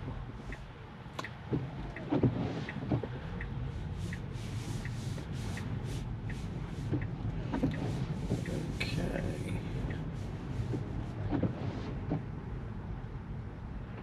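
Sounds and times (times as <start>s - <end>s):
turn signal ticking: 0.0s - 12.4s
windshield wiper sweep: 0.0s - 12.4s
car cabin hum: 0.0s - 14.0s
rain on car: 0.0s - 14.0s.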